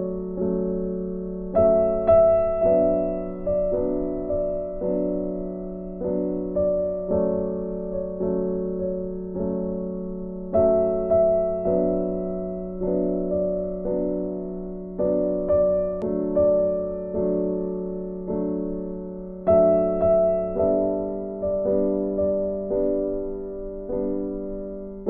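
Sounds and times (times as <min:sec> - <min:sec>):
gentle piano tune: 0:00.0 - 0:25.0.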